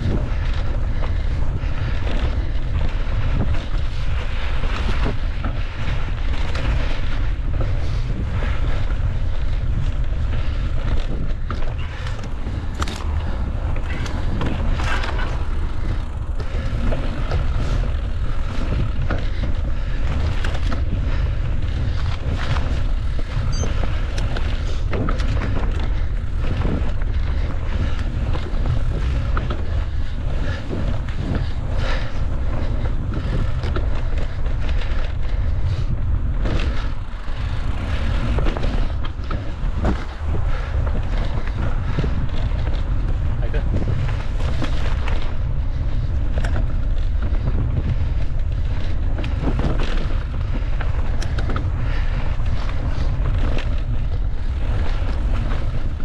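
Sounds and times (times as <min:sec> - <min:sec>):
bike clattering over bumps: 0:00.0 - 0:56.0
wind and rolling rumble: 0:00.0 - 0:56.0.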